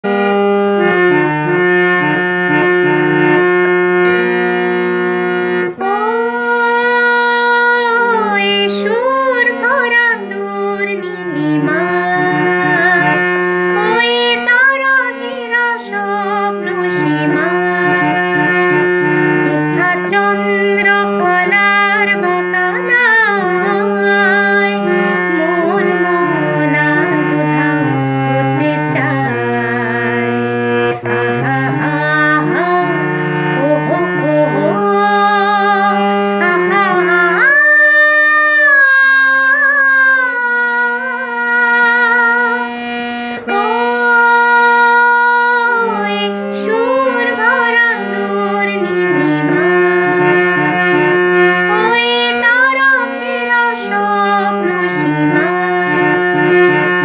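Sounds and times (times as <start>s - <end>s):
harmonium playing chords: 0.0s - 57.0s
woman singing: 5.6s - 50.7s, 51.6s - 56.8s.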